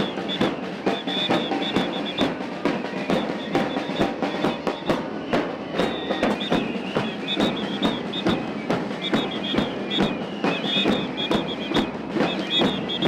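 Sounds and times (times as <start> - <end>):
snare and bass drums beating: 0.0 - 13.0.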